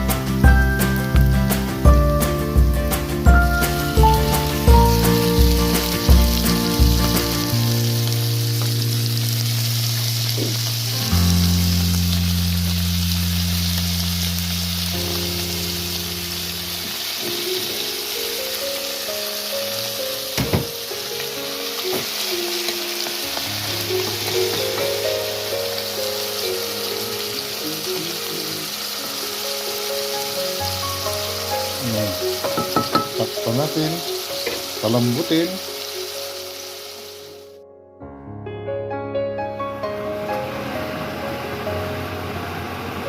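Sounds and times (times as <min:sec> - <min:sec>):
beef sizzling in a hot pan: 0:00.0 - 0:37.6
background music: 0:00.0 - 0:43.0.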